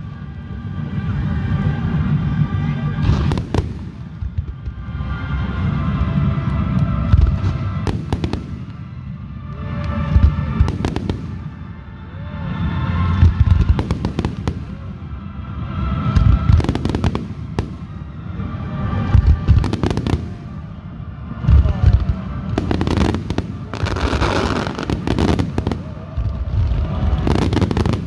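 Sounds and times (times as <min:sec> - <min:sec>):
music: 0:00.0 - 0:28.0
firework bangs and crackling: 0:01.4 - 0:28.0.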